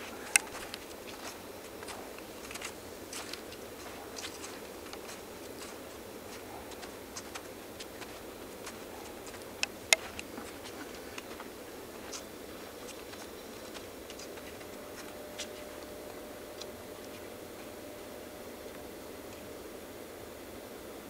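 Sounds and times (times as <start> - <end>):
footsteps crunching on snow: 0.0 - 18.2.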